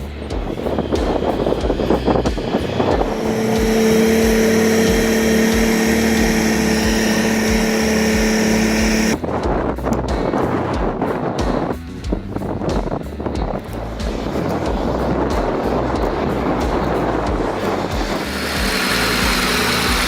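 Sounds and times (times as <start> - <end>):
diesel tractor engine drone: 0.0 - 10.5, 11.7 - 20.0
rattle: 0.0 - 20.0
wind-like noise: 0.0 - 20.0.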